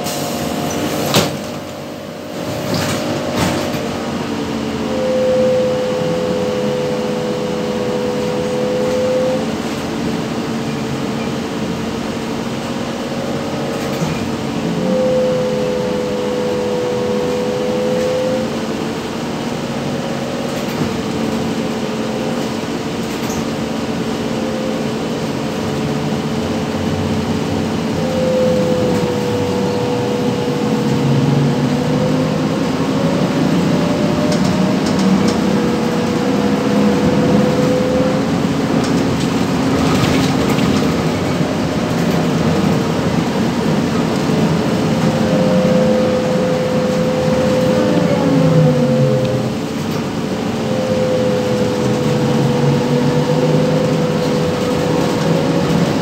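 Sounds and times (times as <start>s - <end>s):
high motor whine: 0.0s - 56.0s
road and cabin noise: 0.0s - 56.0s
trolleybus electric hum: 0.0s - 56.0s.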